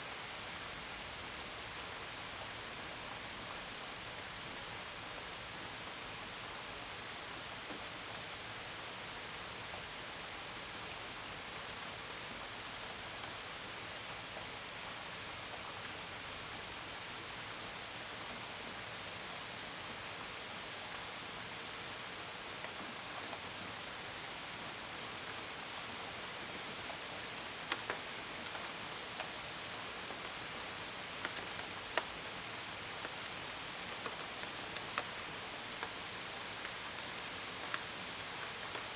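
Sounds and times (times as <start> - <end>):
gentle rain: 0.0 - 38.9.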